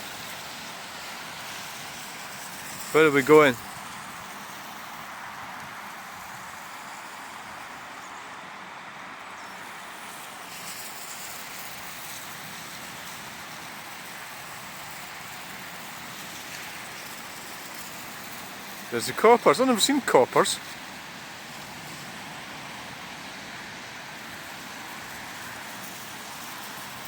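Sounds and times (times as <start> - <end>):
busy road traffic: 0.0 - 27.0.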